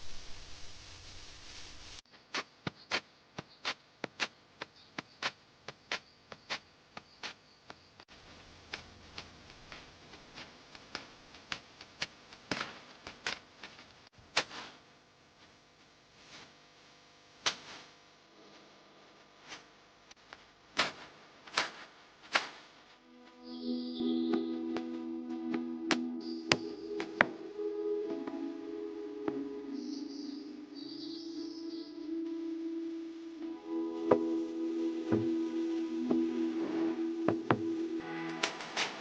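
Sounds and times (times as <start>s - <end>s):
faint rain hiss: 0.0s - 2.1s, 3.0s - 39.0s.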